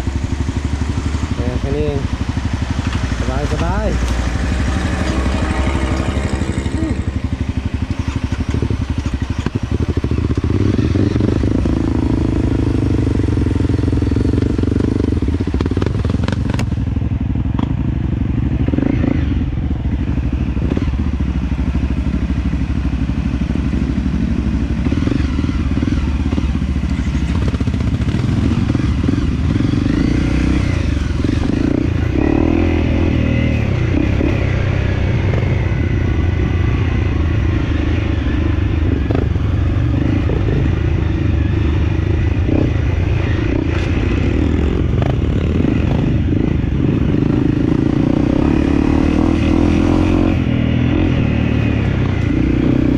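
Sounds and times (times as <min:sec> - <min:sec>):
off-road motorcycle engine running: 0:00.0 - 0:52.9.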